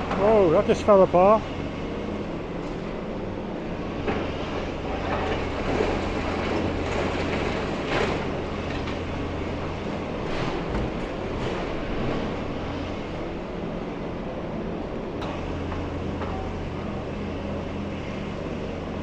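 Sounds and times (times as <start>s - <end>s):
demolition machine engine droning: 0.0s - 19.0s.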